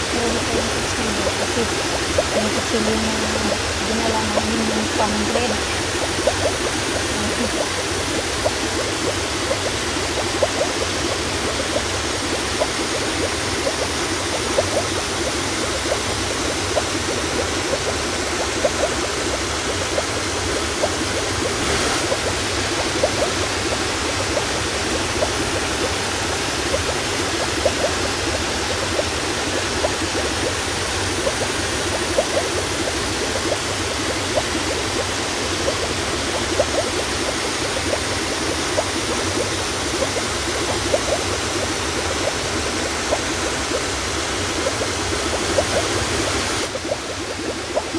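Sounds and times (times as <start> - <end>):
seawater lapping around rocks: 0.0 - 47.9.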